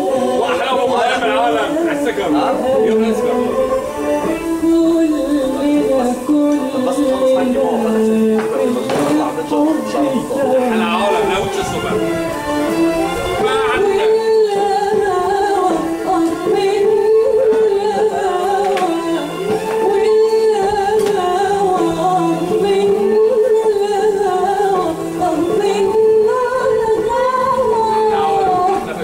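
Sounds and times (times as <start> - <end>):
musical accompaniment: 0.0 - 29.0
person singing ornamented notes: 0.0 - 29.0.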